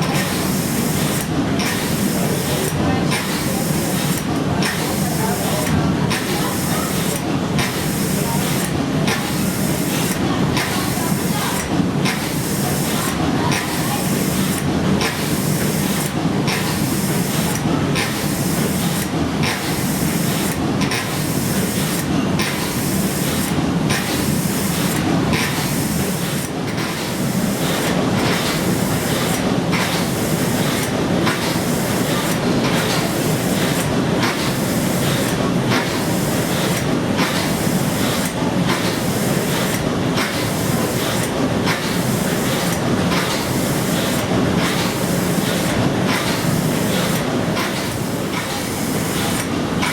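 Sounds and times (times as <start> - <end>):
steam engine hissing and clattering: 0.0 - 49.9.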